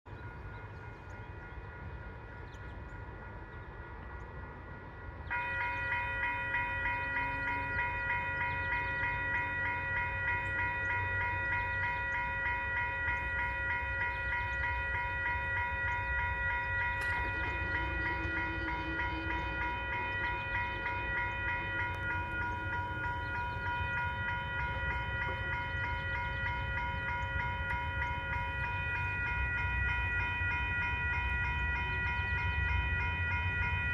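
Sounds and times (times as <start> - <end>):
level-crossing warning bell: 0.1 - 33.9.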